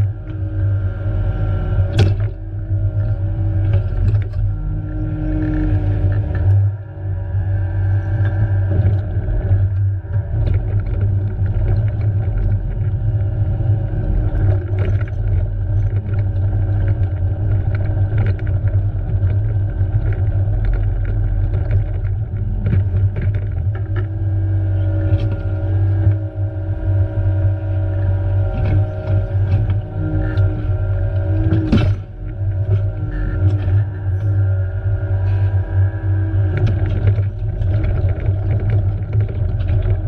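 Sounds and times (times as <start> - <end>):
diesel engine rumbling: 0.0 - 40.0
engine whine: 0.0 - 40.0.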